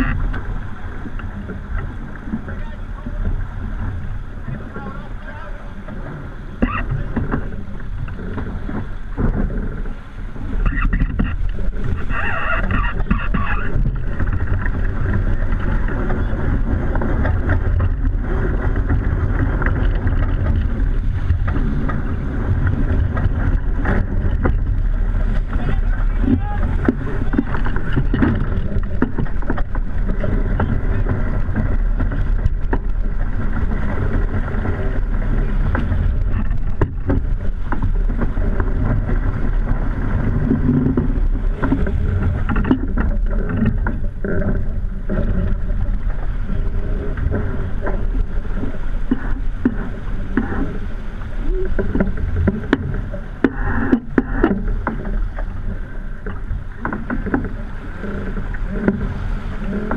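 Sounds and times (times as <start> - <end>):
rushing water: 0.0 - 59.9
wind on microphone: 0.0 - 59.9.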